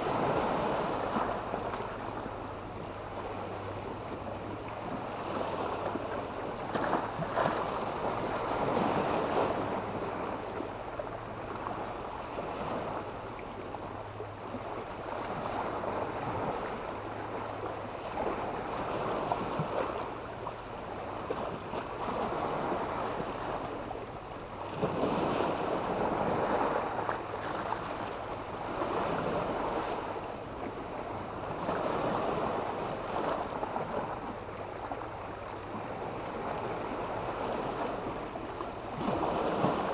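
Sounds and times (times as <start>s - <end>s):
waves breaking on stony beach: 0.0s - 39.9s.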